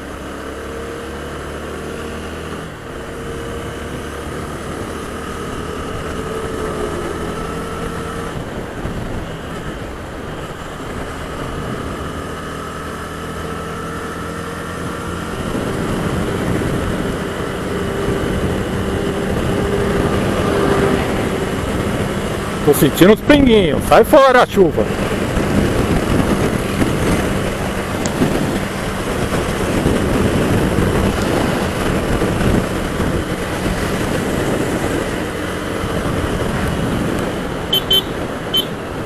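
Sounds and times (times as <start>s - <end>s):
motorcycle engine running: 0.0s - 39.0s
road and wind rush: 0.0s - 39.0s.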